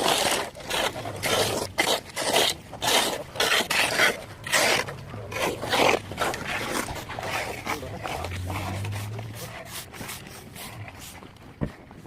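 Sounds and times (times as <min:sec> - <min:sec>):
rough scraping strokes: 0:00.0 - 0:11.4.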